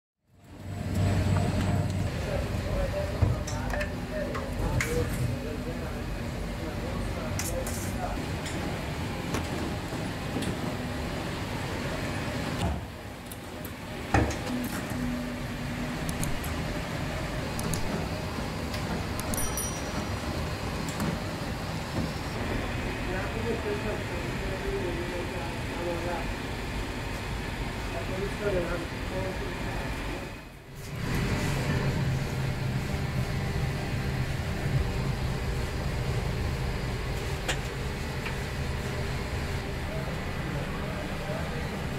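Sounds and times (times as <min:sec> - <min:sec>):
factory machinery running: 0:00.4 - 0:41.9.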